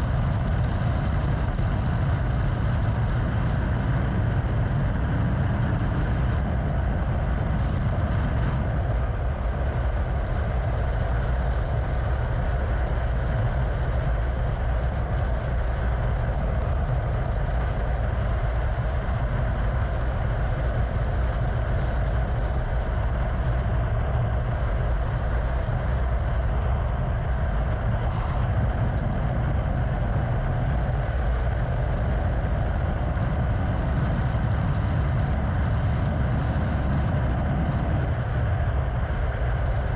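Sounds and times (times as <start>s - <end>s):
engine drone: 0.0s - 39.9s
wind rush: 0.0s - 39.9s.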